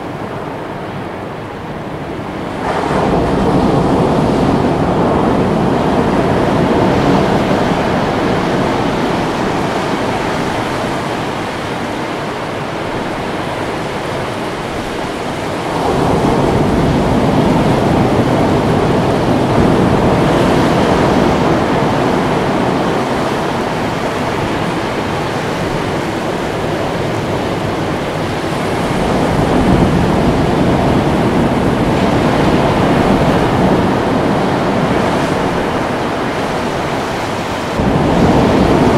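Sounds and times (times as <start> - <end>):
waves breaking over rocks: 2.3 - 38.9.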